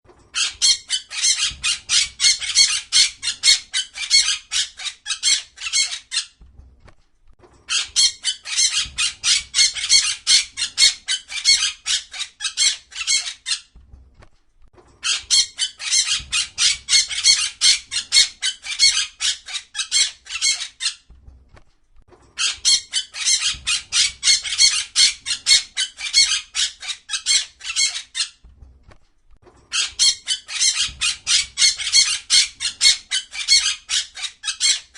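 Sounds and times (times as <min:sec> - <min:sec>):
parrot squawking: 0:00.4 - 0:06.4, 0:07.7 - 0:13.7, 0:15.0 - 0:21.0, 0:22.4 - 0:28.4, 0:29.7 - 0:34.9.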